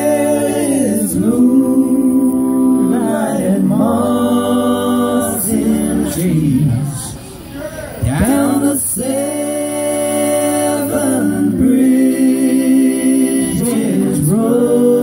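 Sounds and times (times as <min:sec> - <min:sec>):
man and woman singing in harmony: 0:00.0 - 0:07.1, 0:08.0 - 0:15.0.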